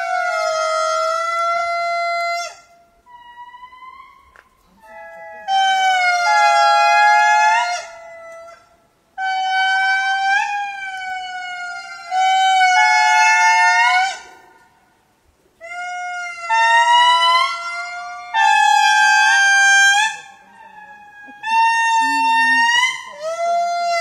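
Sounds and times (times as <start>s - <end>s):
lemurs calling: 0.0s - 14.8s, 15.6s - 24.0s.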